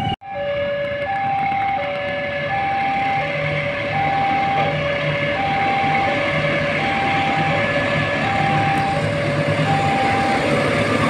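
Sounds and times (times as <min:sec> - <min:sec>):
diesel locomotive hum: 0:00.0 - 0:11.0
two-tone railway warning alarm: 0:00.0 - 0:11.0.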